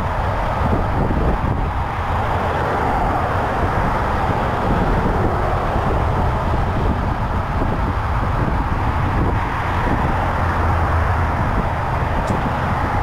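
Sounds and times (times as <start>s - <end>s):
freeway traffic noise: 0.0s - 13.0s
wind rumble on microphone: 0.0s - 13.0s.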